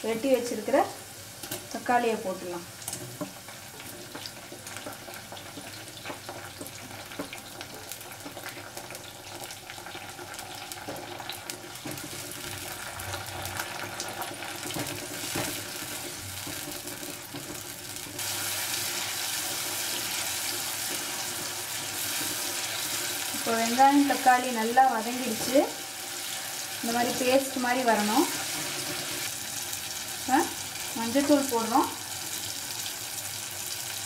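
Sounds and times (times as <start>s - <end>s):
vegetables sizzling in hot oil: 0.0s - 34.0s.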